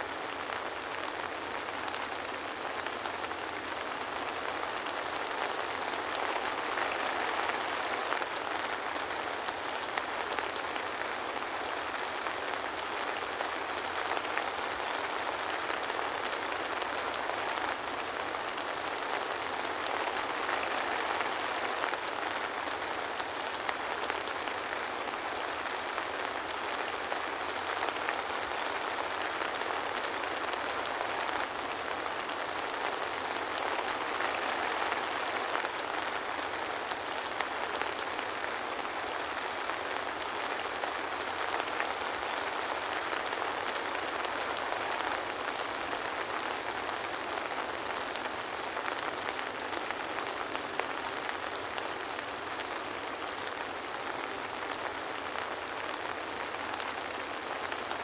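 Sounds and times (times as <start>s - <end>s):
steady soft rain: 0.0s - 58.0s.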